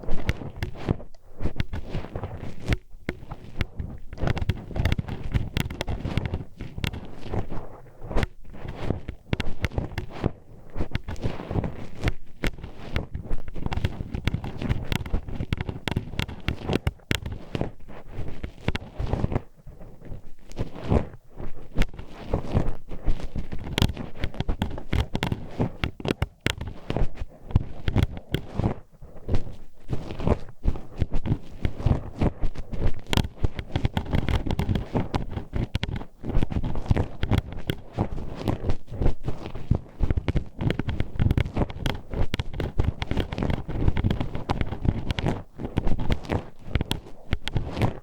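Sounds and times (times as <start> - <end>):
hairpin clacking in microphone: 0.0 - 19.5, 21.7 - 48.0
rumbling scratch: 0.0 - 48.0.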